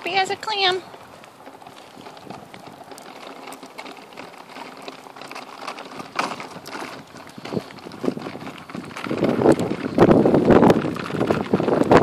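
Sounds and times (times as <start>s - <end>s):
stroller bump: 0.0s - 12.0s
stroller wheels rattling on pavement: 0.0s - 12.0s.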